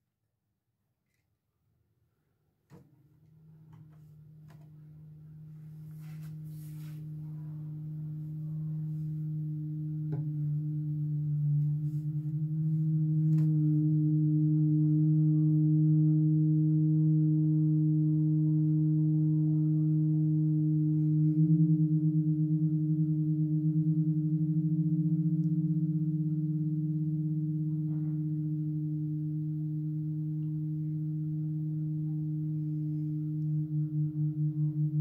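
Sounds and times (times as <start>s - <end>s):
low feedback drone with beating: 3.4s - 35.0s.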